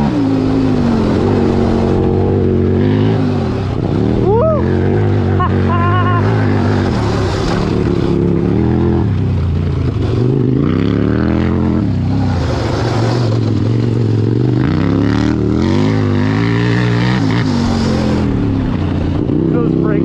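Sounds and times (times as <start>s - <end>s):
wind noise: 0.0s - 19.7s
riding noise over dirt: 0.0s - 20.0s.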